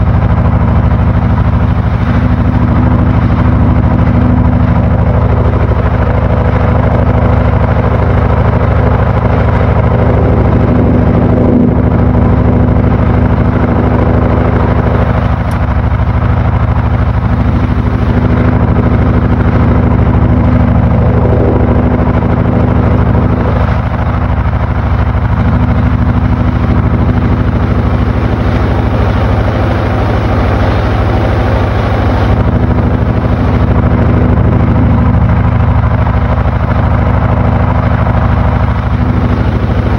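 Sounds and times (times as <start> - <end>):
washing machine churning: 0.0 - 39.9
washing machine motor hum: 0.0 - 39.9.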